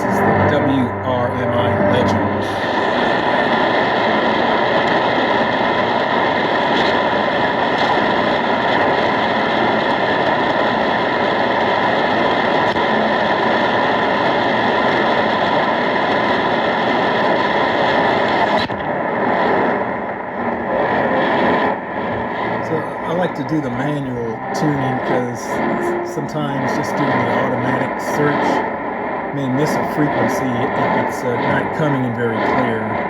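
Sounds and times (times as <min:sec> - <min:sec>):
radio static hiss: 0:00.0 - 0:19.7, 0:20.4 - 0:33.0.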